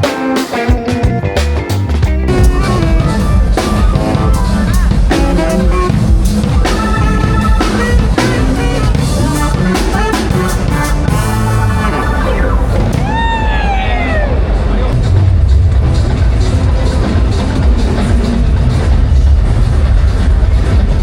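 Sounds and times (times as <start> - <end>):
drum kit: 0.0 - 21.0
guitar: 0.0 - 21.0.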